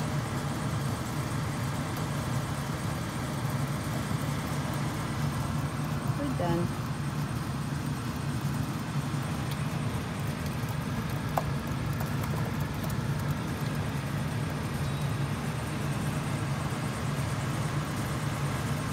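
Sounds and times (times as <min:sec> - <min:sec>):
low mechanical hum: 0:00.0 - 0:18.9.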